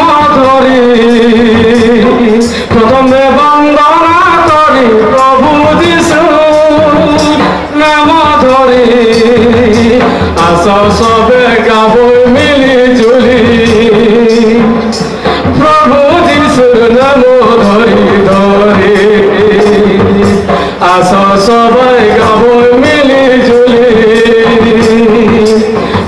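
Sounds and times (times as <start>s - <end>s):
hand drum beat: 0.0s - 26.0s
jingling percussion: 0.0s - 26.0s
man singing into a microphone: 0.0s - 26.0s.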